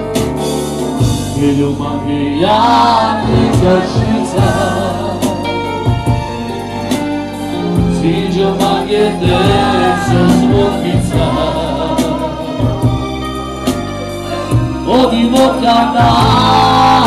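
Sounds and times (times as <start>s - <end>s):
live band music with singer: 0.0s - 17.0s.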